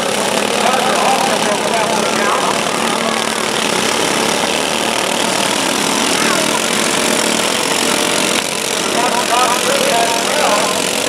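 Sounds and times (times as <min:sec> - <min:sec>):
lawn mower engines running hard: 0:00.0 - 0:11.0.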